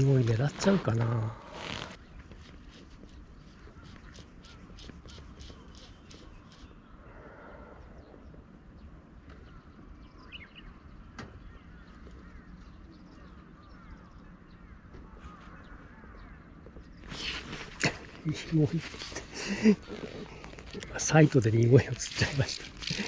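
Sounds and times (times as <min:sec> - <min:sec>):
distant birds chirping: 0:00.0 - 0:23.0.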